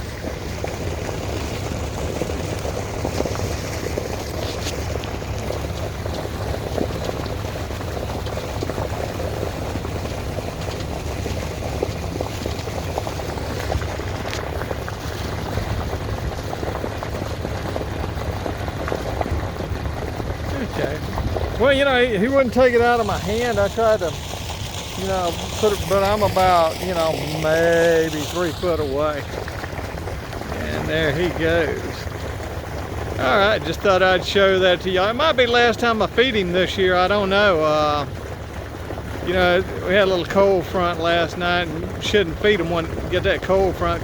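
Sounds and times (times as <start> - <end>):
low rumble: 0.0 - 44.0
water bubbling and lapping: 0.0 - 44.0.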